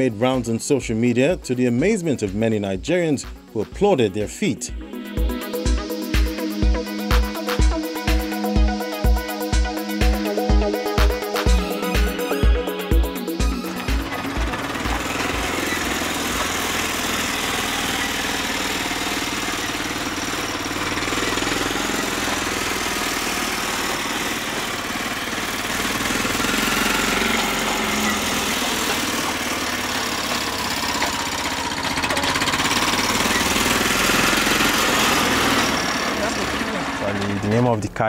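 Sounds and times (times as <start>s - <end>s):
sports car engine running: 4.7s - 38.0s.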